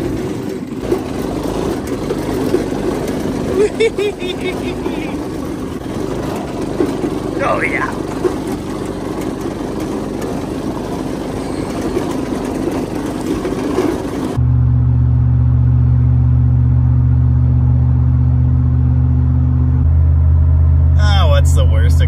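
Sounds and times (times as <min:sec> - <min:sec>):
truck driving over rough ground: 0:00.0 - 0:21.9
vehicle cruising drone inside cabin: 0:00.0 - 0:22.0.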